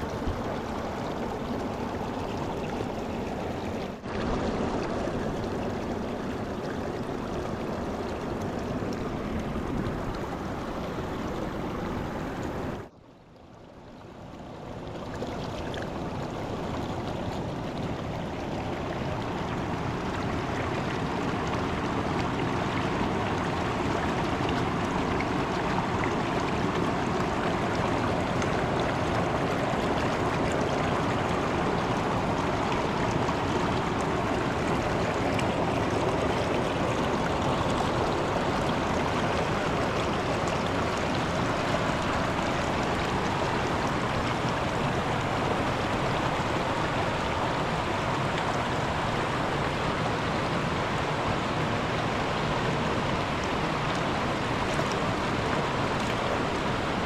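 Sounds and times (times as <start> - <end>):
river water rushing: 0.0 - 12.9, 13.5 - 57.0.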